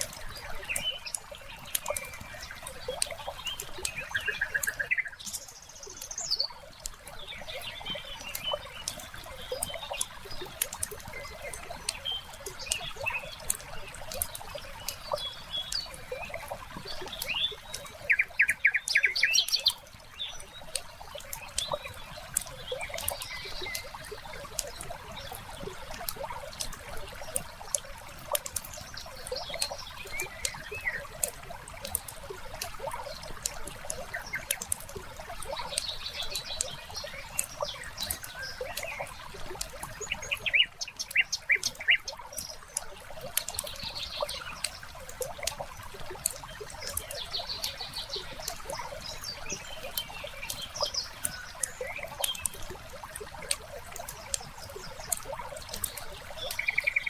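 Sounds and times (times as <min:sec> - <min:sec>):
wood fire crackling: 0:00.0 - 0:56.7
birds calling: 0:00.0 - 0:57.0.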